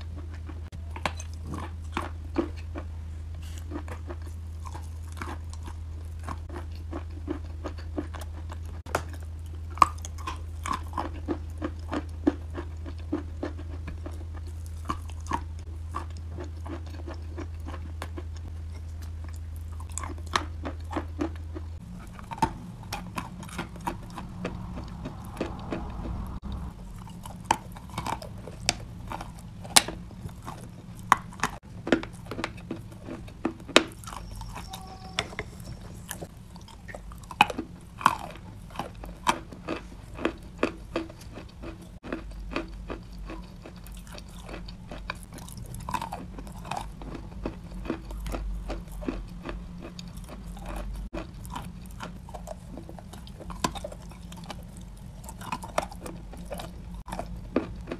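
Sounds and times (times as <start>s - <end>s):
crunching of clay chunks: 0.0s - 57.9s
low steady hum: 0.0s - 57.9s
wet chewing: 0.0s - 57.9s.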